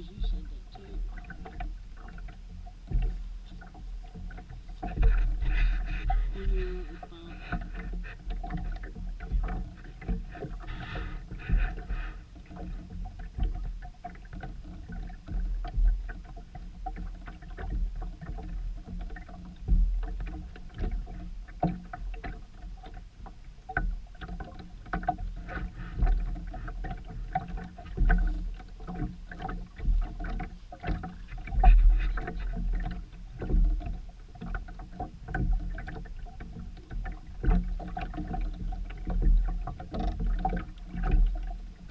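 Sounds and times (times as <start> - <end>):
low rumble with buffeting: 0.0 - 41.9.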